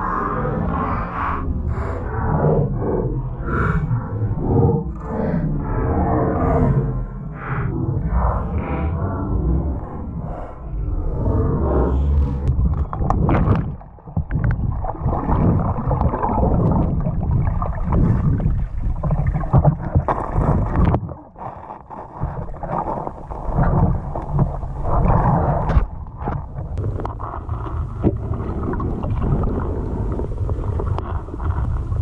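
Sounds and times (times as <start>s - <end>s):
underwater water rushing and gurgling: 0.0s - 32.0s.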